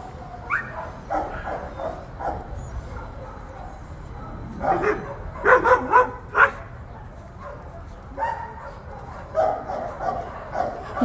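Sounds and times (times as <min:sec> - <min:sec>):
dogs barking and yipping: 0:00.0 - 0:11.0.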